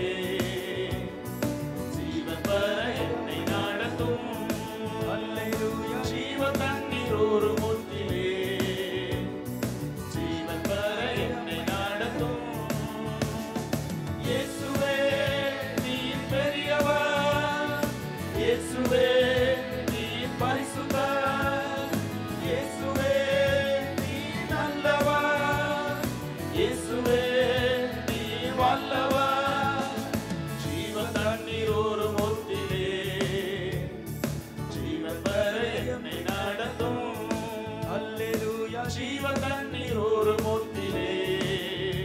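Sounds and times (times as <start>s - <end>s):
instrumental accompaniment: 0.0s - 41.8s
voices singing worship song: 0.0s - 42.0s.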